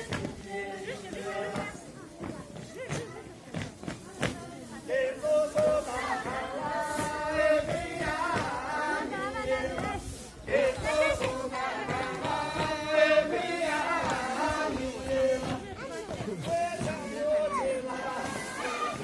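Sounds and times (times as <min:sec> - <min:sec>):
group of voices singing: 0:00.0 - 0:02.2, 0:04.7 - 0:19.0.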